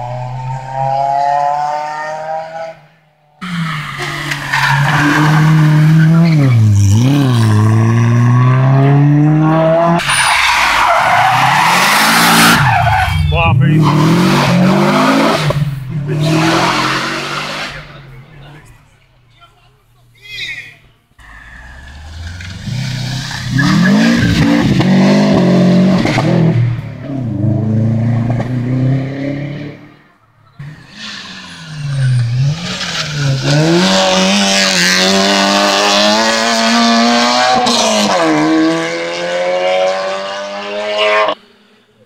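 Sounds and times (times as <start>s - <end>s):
car accelerating hard: 0.0s - 10.0s, 10.6s - 18.2s, 21.2s - 30.0s, 30.6s - 41.4s
rally car engines revving: 0.0s - 19.2s, 21.2s - 41.6s
car braking: 0.0s - 19.4s, 20.1s - 42.0s.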